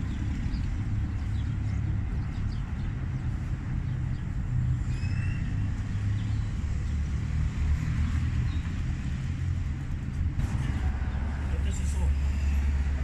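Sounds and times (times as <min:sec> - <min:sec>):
street background rumble: 0:00.0 - 0:13.0.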